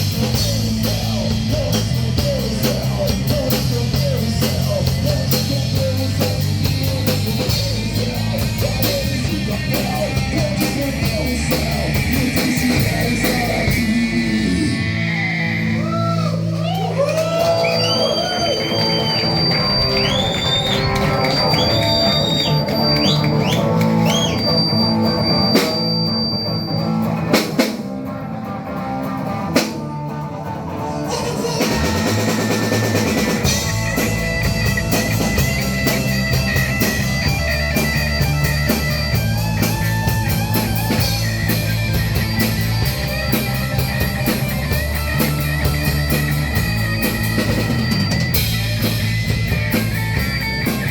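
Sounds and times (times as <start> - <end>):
bass: 0.0 - 50.9
drums: 0.0 - 50.9
electric guitar lead: 0.0 - 50.9.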